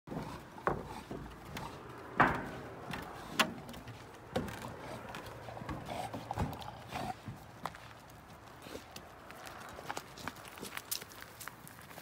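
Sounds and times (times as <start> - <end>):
footsteps on wooden planks: 0.1 - 12.0.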